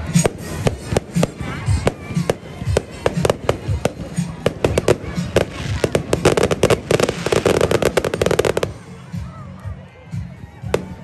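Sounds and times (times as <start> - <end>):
fireworks bangs and crackle: 0.0 - 9.1.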